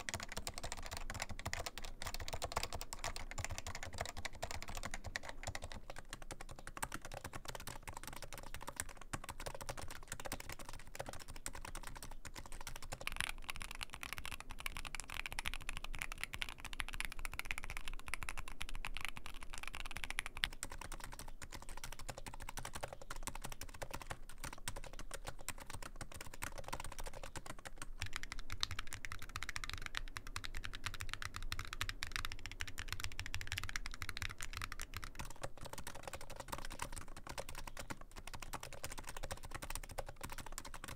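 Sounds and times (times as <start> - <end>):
deeper mechanical keyboard typing: 0.0 - 40.9
soft muted keyboard typing: 0.0 - 40.9.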